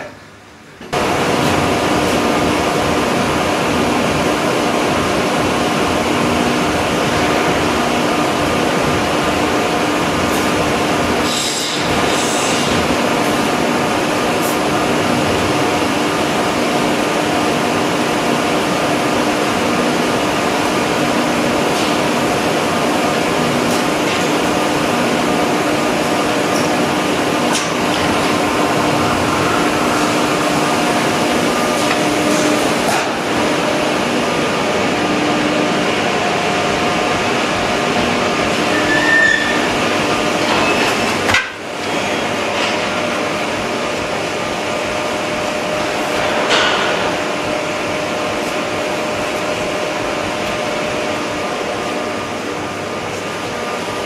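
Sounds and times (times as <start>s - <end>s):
factory machinery drone: 0.0s - 54.0s.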